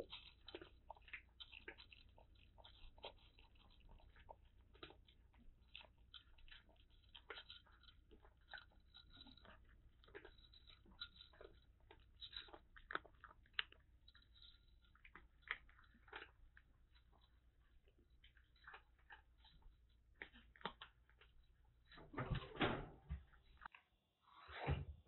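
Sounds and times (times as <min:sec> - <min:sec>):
cat crunching dry kibble: 0:00.0 - 0:22.0.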